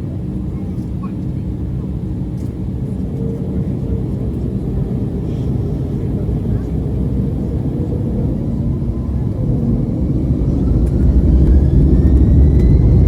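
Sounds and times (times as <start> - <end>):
jet engines spooling up: 0.8 - 13.0.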